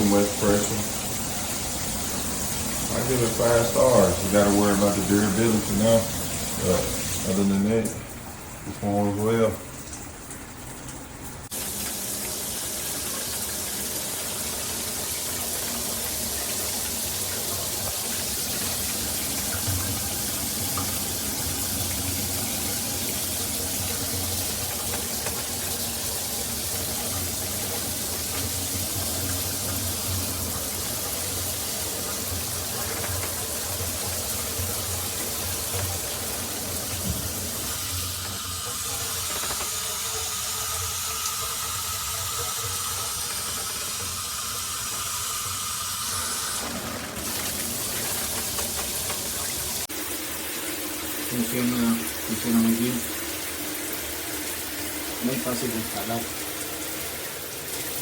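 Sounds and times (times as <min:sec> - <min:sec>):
shower water spraying: 0:00.0 - 0:58.0.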